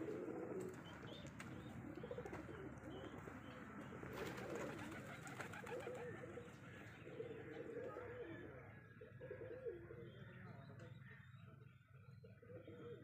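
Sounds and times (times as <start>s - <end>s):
pigeons cooing: 0.0s - 11.3s, 11.9s - 13.0s.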